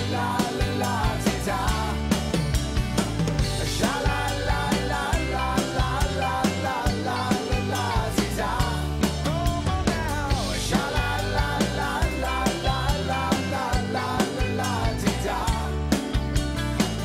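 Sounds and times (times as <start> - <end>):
drum kit beat: 0.0 - 17.0
upbeat rock band playing: 0.0 - 17.0.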